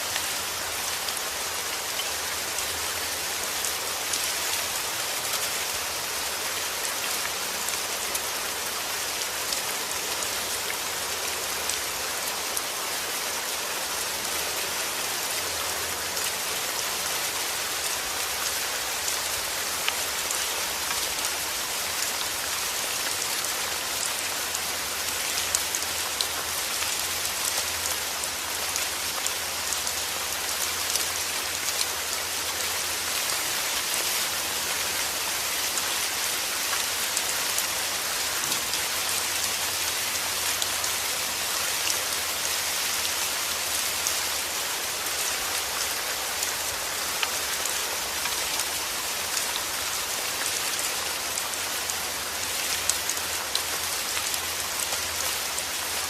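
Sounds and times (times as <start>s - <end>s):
heavy rain on hard surface: 0.0s - 56.0s.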